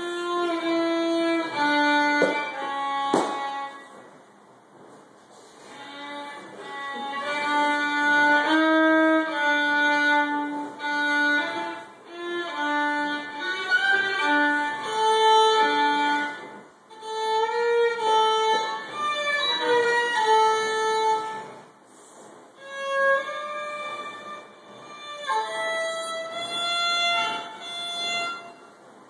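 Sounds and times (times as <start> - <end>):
solo violin slow melody: 0.0 - 4.1, 5.5 - 21.8, 22.6 - 28.8.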